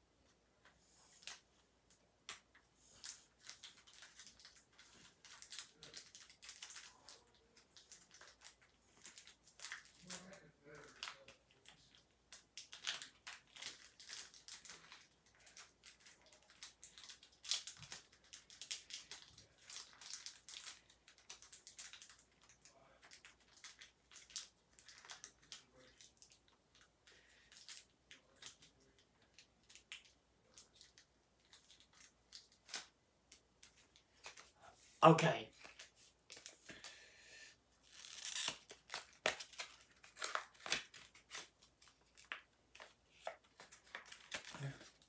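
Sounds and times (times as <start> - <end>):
packaging crinkling and tearing: 2.2 - 34.5, 35.6 - 36.9, 37.8 - 45.0.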